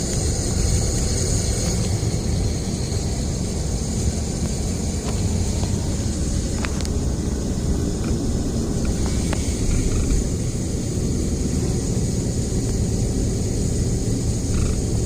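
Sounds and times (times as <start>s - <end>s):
high static-like hiss: 0.0s - 15.0s
road and drivetrain rumble: 0.0s - 15.0s.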